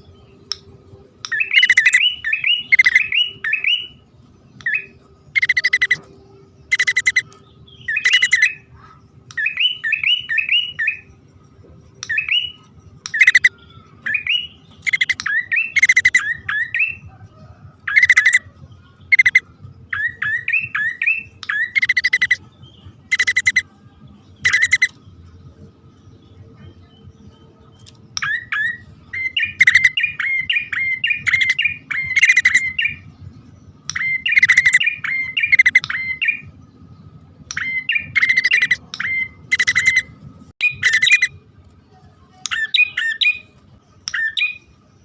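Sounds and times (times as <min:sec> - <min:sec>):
bird chirps and buzzy trills: 0:00.0 - 0:45.0.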